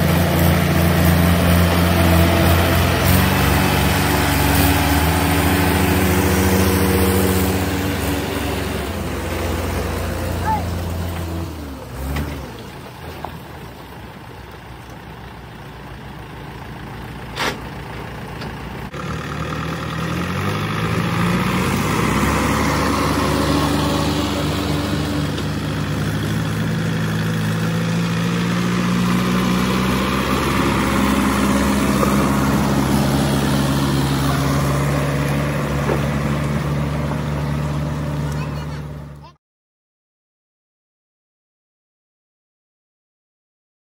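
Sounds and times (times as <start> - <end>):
diesel tractor engine revving: 0.0 - 39.3.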